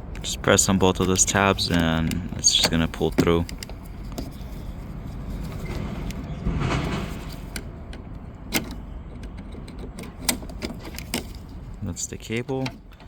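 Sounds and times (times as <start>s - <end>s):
door handle scraping rustle: 0.3s - 11.8s.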